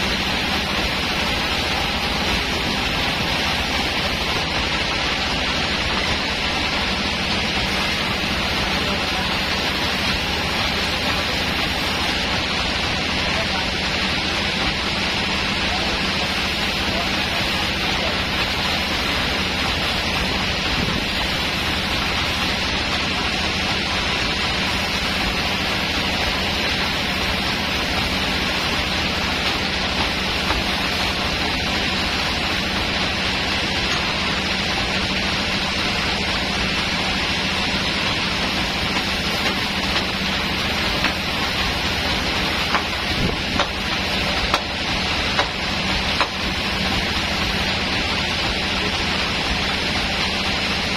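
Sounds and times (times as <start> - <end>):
sawmill machine humming: 0.0 - 50.9.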